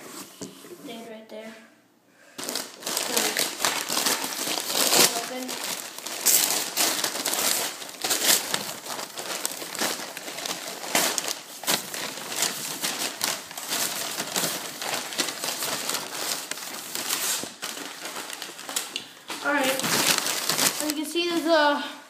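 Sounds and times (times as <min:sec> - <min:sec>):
newspaper rustling and crinkling: 0:02.4 - 0:21.8.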